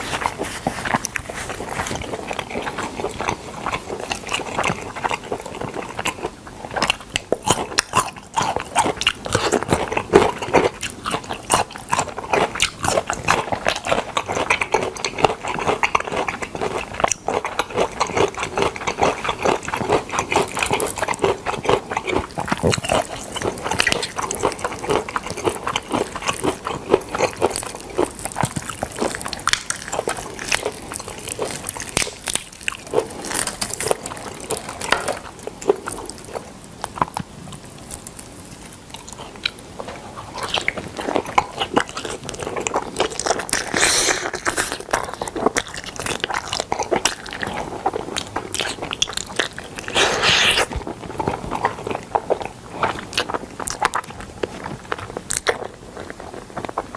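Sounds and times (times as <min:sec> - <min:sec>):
chewing crunchy food: 0:00.0 - 0:56.9.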